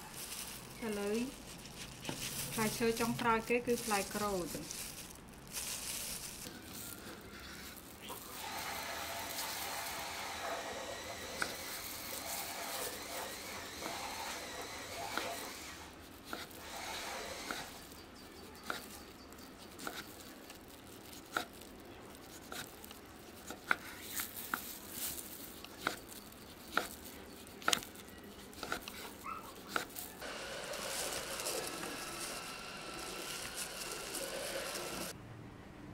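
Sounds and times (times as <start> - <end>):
orange peel tearing and crinkling: 0.0 - 35.2.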